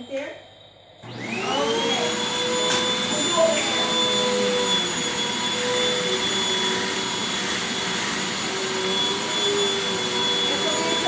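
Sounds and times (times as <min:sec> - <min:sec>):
vacuum cleaner running: 0:01.0 - 0:11.0.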